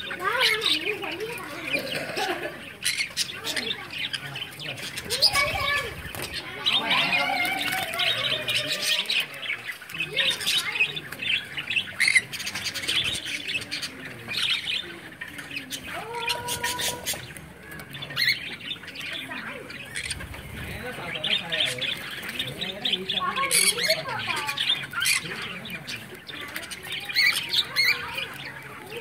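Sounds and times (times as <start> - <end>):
parrots squawking and chirping: 0.0 - 29.0.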